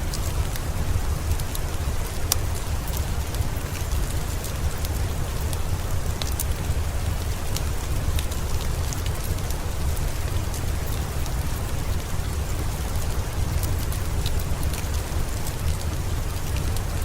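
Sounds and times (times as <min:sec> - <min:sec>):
dense rain: 0:00.0 - 0:17.0.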